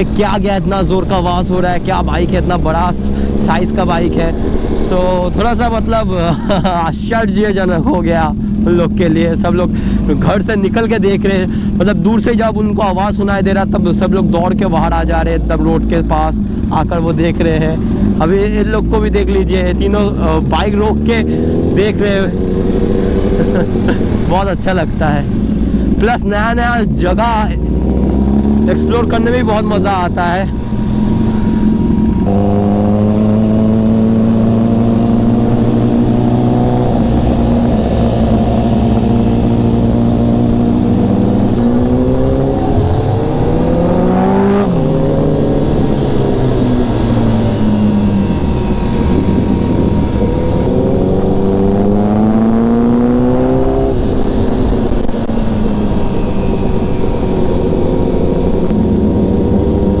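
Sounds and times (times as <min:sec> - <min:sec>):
motorcycle engine: 0:00.0 - 1:00.0.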